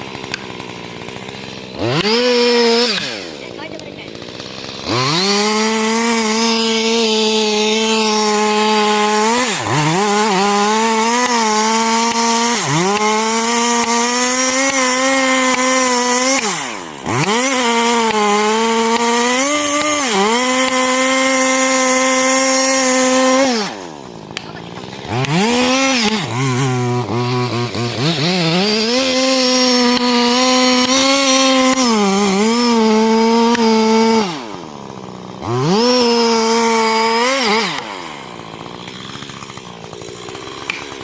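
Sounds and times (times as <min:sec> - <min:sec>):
chainsaw cutting tree trunk: 0:00.0 - 0:41.0.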